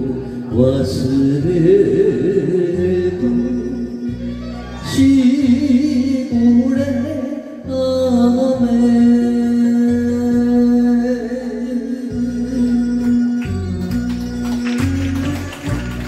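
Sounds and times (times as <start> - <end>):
man singing into a microphone: 0.0 - 12.9
karaoke backing track with bass beat: 0.0 - 16.0.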